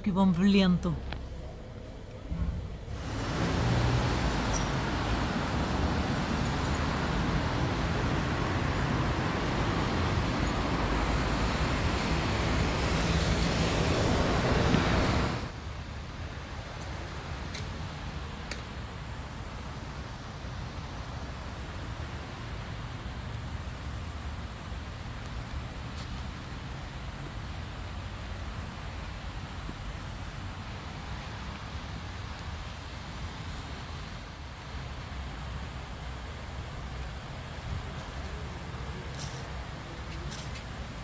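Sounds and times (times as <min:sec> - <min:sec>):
street traffic: 0:00.0 - 0:41.0.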